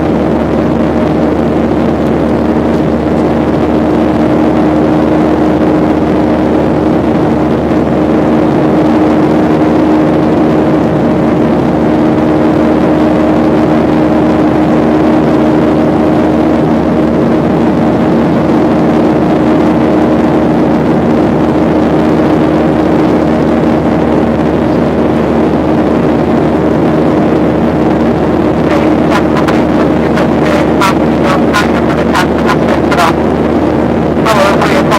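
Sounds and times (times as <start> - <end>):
airliner engine roar: 0.0 - 34.9.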